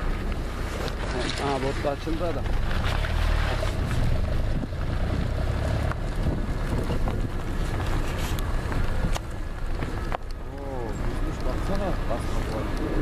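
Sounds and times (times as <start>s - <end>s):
wind buffeting microphone: 2.5s - 13.0s.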